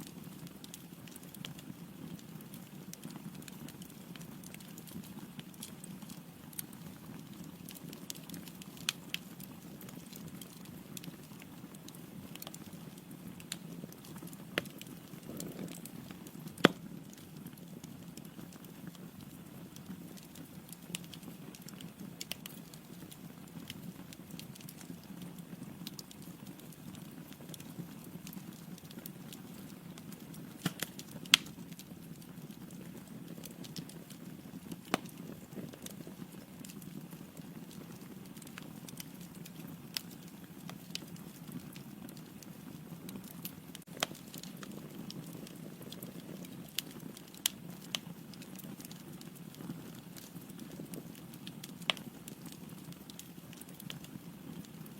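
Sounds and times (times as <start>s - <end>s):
fire flames rumbling: 0.0s - 54.9s
wood crackling and popping: 0.0s - 54.9s.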